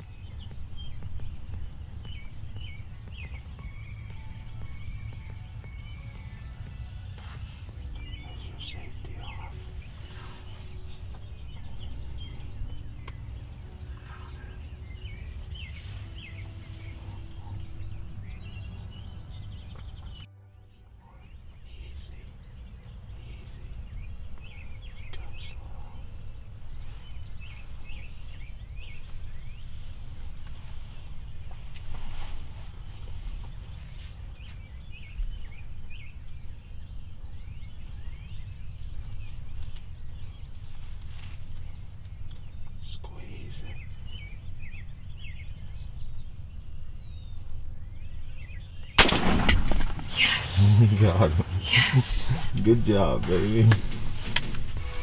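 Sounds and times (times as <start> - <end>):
low rumble: 0.0 - 31.1, 41.6 - 55.0
songbirds chirping: 0.0 - 55.0.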